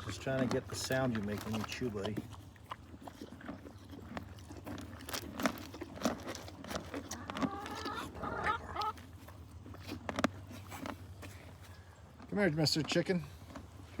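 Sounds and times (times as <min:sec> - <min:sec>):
animal crunching and chewing feed: 0:00.0 - 0:14.0.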